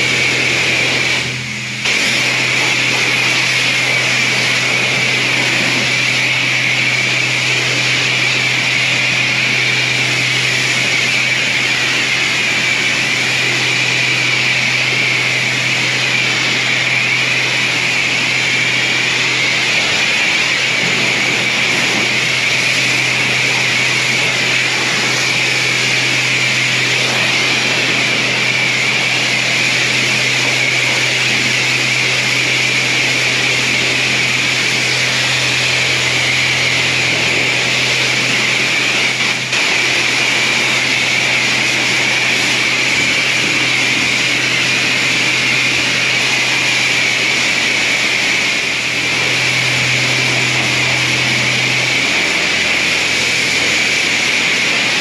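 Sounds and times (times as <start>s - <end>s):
low hum: 0.0s - 54.9s
pressure washer spray hissing: 0.0s - 55.0s.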